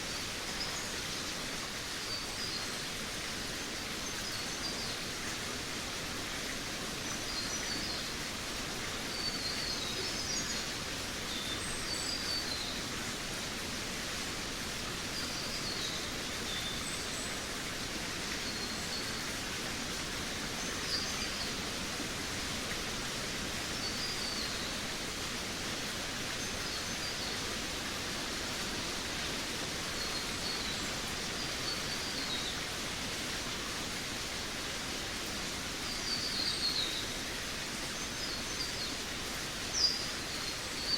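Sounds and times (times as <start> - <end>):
steady rushing hiss: 0.0 - 40.9
songbirds chirping: 0.1 - 40.9.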